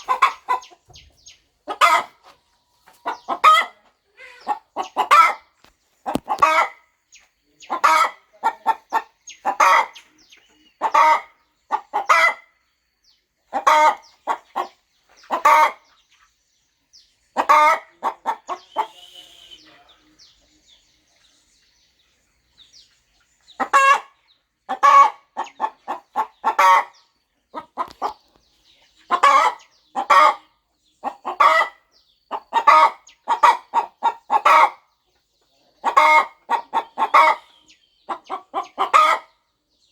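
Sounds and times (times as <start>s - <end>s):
hen clucking: 0.0s - 12.7s, 13.4s - 21.8s, 22.4s - 39.5s.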